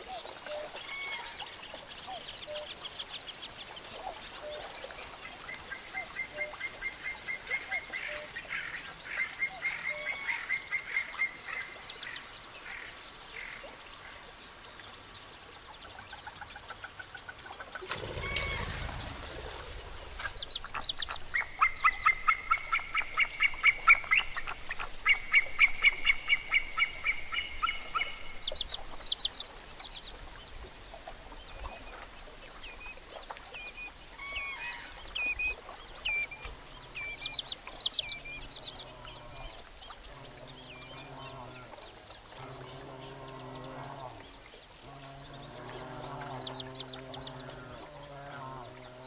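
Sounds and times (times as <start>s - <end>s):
wetland birds repeated calls: 0.0s - 49.0s.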